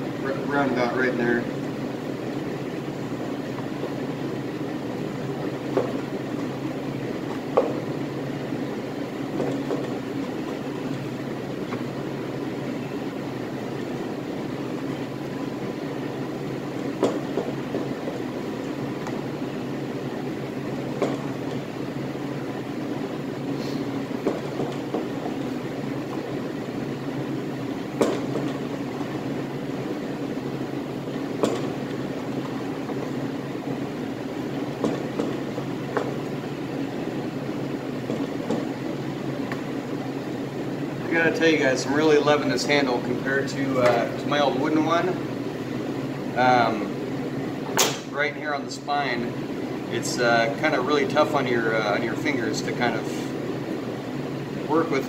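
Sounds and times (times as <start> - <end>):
mechanical hum of machinery: 0.0 - 55.0.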